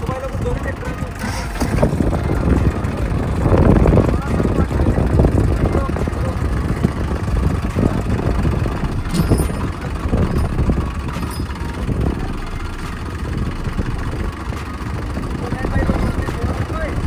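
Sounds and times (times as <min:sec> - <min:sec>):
tractor diesel engines idling: 0:00.0 - 0:17.0.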